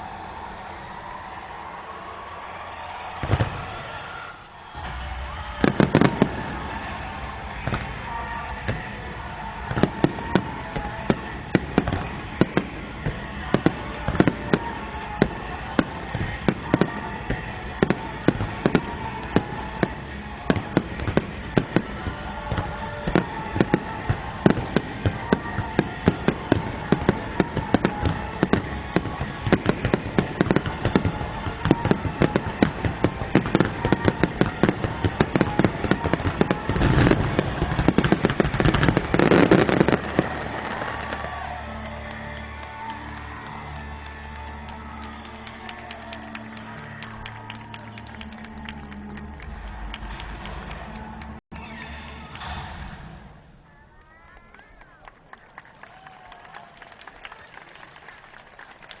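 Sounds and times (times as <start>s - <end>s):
fireworks bangs: 0.0s - 47.6s
music playing: 0.0s - 53.6s
fireworks crackling: 0.0s - 53.7s.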